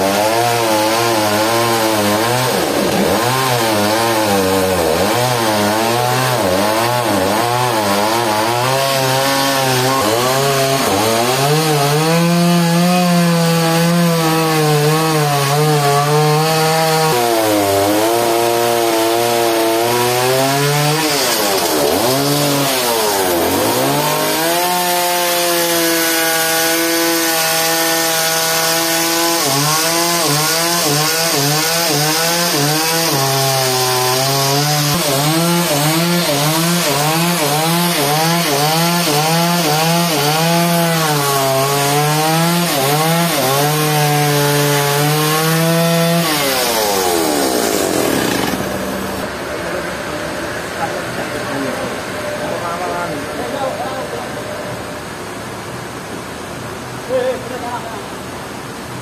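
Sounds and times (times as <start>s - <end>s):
chainsaw cutting log: 0.0s - 49.3s.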